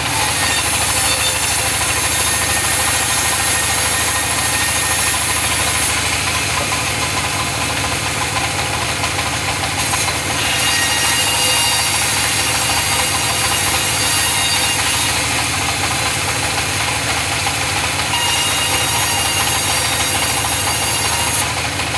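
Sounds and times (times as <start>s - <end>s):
sawing machine engine knocking: 0.0s - 21.9s.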